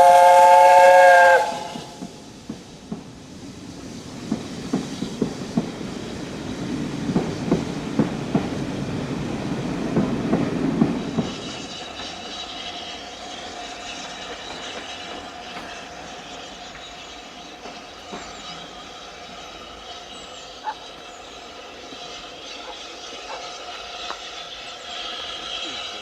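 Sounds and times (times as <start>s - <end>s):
train wheels clacking over joints: 1.2s - 26.0s.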